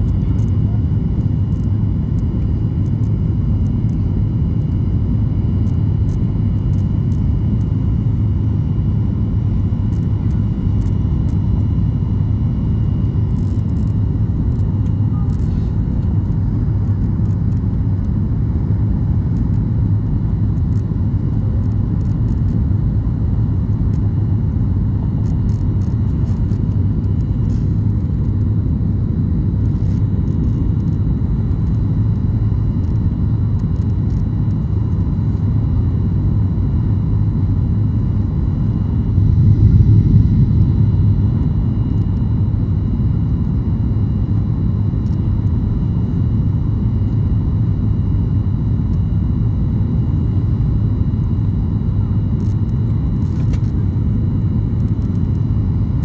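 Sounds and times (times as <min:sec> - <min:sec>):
jet engines low rumble in cabin: 0:00.0 - 0:56.0.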